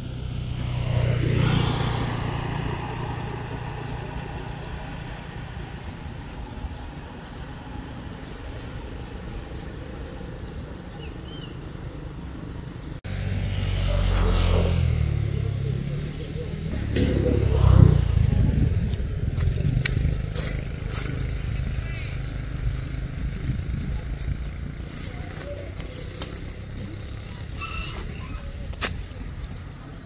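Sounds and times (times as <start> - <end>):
vehicle passing by: 0.0 - 10.4, 12.4 - 30.0
low road rumble: 0.0 - 30.0.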